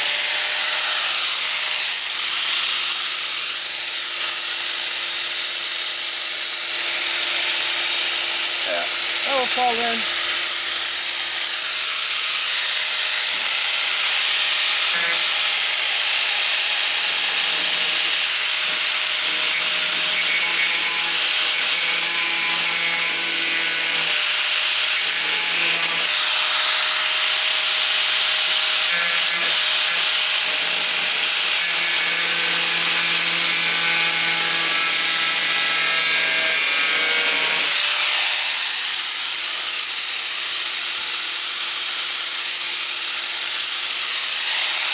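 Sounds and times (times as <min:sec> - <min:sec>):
angle grinder cutting sheet metal: 0:00.0 - 0:44.9.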